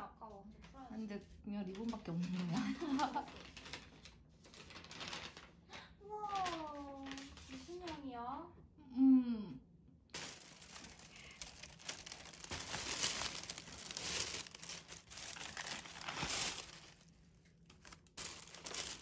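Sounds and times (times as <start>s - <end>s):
plastic bags crinkling and rustling: 1.6s - 8.1s, 10.2s - 19.0s.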